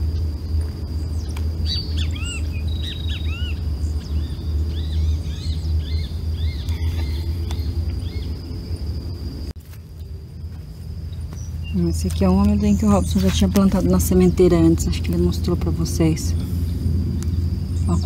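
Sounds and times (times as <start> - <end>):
small birds chirping: 0.0 - 8.9, 9.9 - 18.0
low rumble: 0.0 - 18.0.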